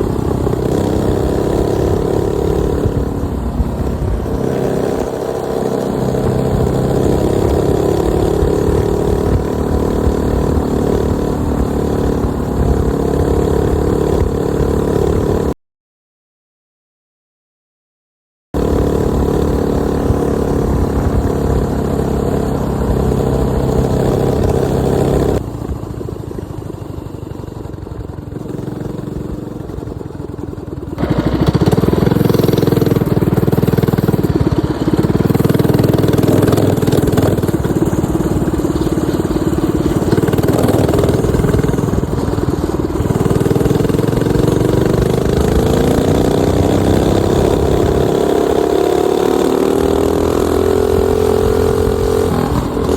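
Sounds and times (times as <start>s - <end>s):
minibike engine running: 0.0s - 15.5s, 18.6s - 52.9s.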